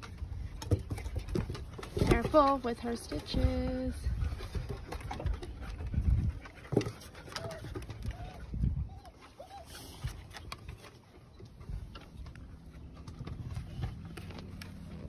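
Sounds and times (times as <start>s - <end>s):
puppies thumping on wooden deck: 0.0s - 15.0s.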